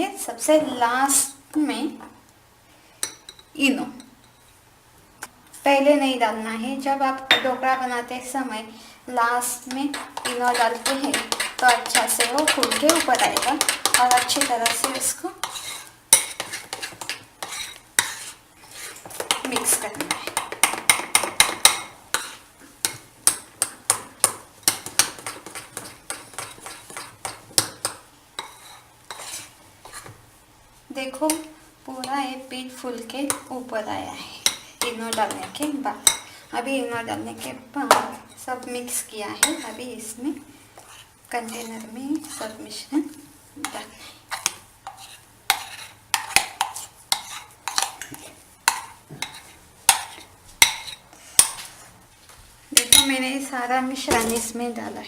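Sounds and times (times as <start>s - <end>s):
spoon stirring batter in a bowl: 2.9s - 4.6s, 9.4s - 51.9s, 52.7s - 54.5s.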